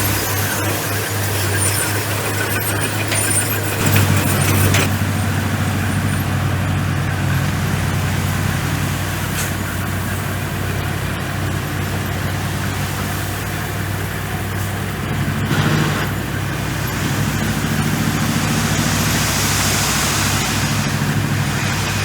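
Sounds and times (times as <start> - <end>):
bulldozer diesel engine: 0.0 - 22.0.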